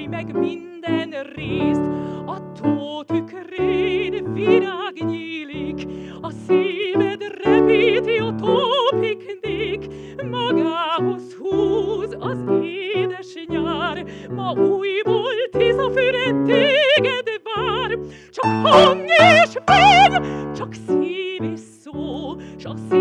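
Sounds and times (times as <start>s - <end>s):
woman singing operatically: 0.0s - 23.0s.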